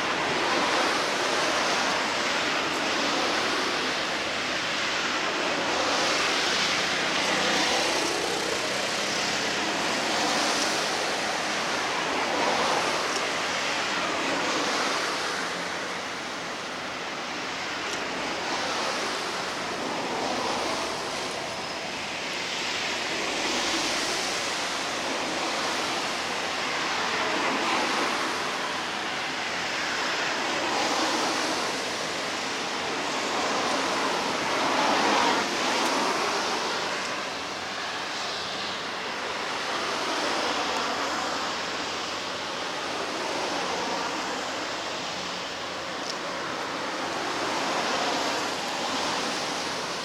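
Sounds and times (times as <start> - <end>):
water washing against shore: 0.0 - 50.0.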